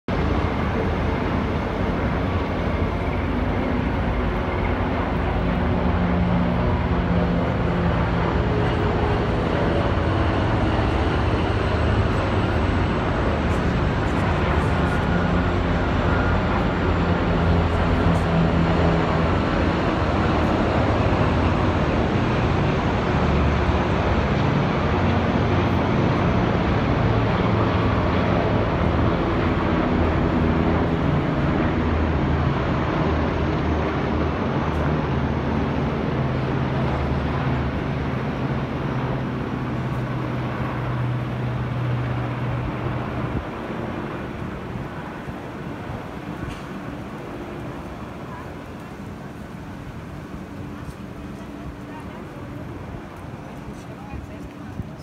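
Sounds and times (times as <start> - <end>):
helicopter rotors droning: 0.1 - 55.0.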